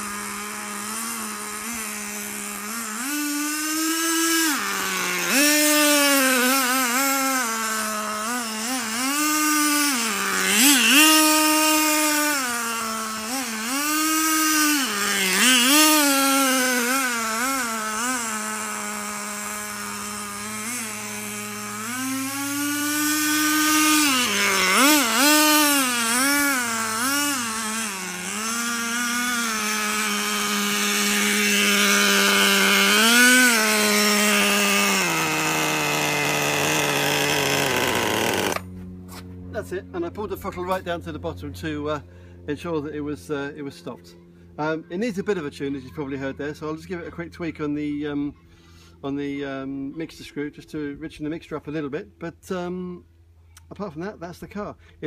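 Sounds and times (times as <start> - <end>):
small nitro engine revving: 0.0 - 47.3.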